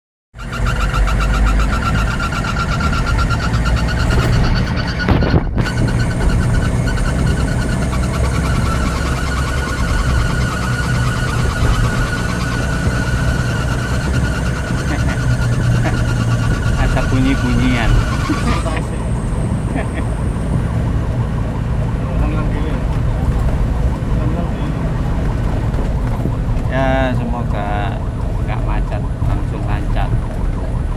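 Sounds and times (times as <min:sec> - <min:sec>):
ambulance engine and road noise: 0:00.3 - 0:30.9
high-pitched whine: 0:00.4 - 0:30.9.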